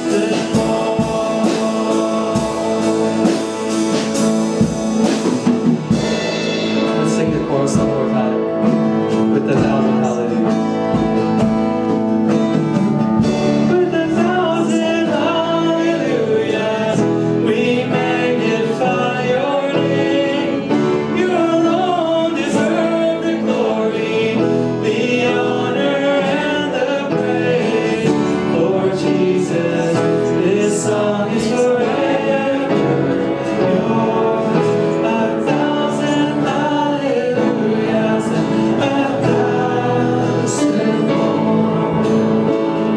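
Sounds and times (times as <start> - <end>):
guitar backing: 0.0 - 42.9
praise song singing: 0.0 - 42.9.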